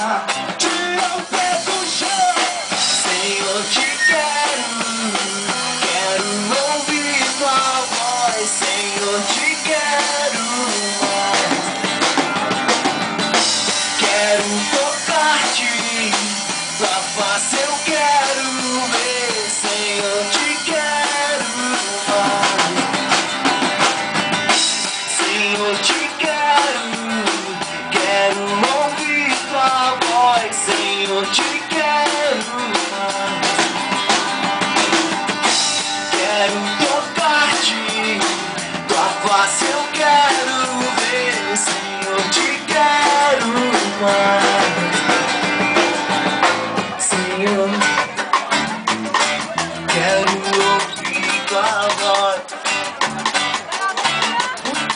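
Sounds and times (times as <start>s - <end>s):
live band playing: 0.0s - 54.9s.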